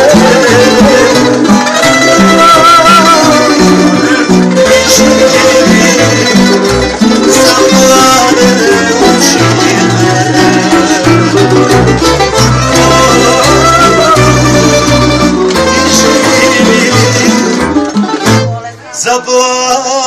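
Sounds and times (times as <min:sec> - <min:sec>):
plucked tremolo melody: 0:00.0 - 0:18.7
strummed chords: 0:00.0 - 0:18.8
bass line: 0:00.0 - 0:19.0.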